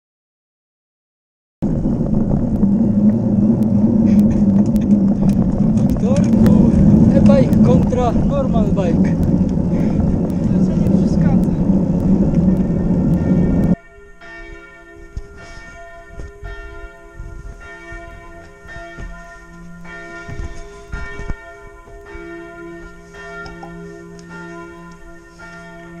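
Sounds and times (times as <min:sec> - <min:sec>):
wind and riding noise: 0:01.6 - 0:26.0
church bells ringing: 0:02.8 - 0:26.0.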